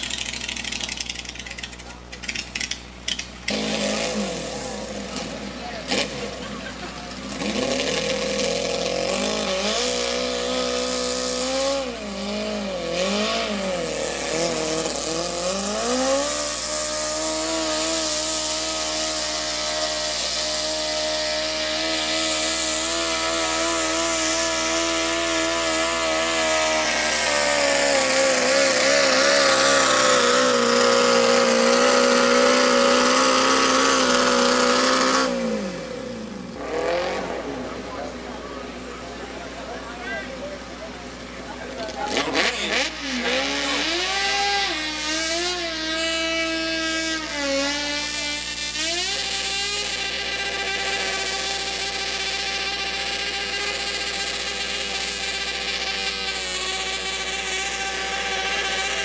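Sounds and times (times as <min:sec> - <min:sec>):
garden tractor engine at full throttle: 0:00.0 - 0:59.0.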